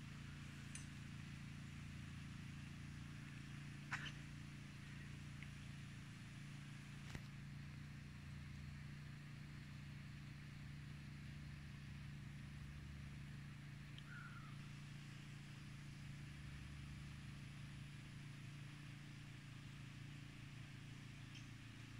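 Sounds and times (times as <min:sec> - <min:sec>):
faint low hum: 0:00.0 - 0:21.9.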